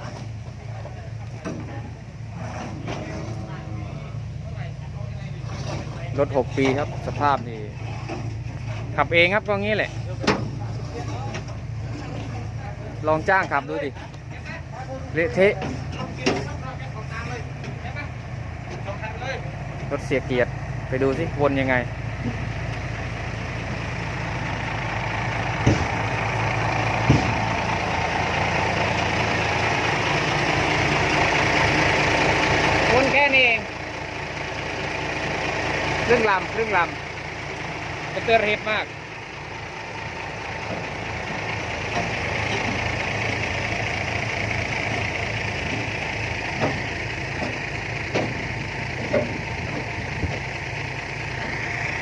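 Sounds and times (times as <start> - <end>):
dump truck engine running: 0.0 - 52.0.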